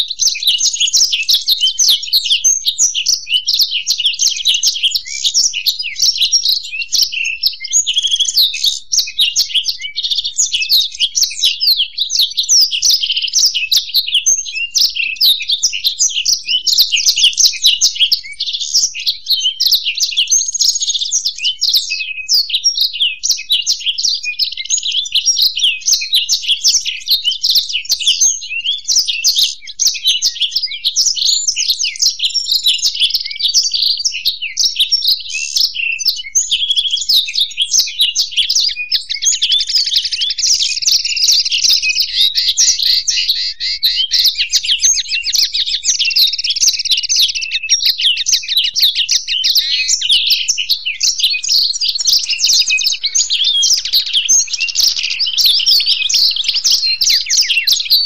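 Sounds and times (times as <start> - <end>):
birds twittering song: 0.0 - 58.0.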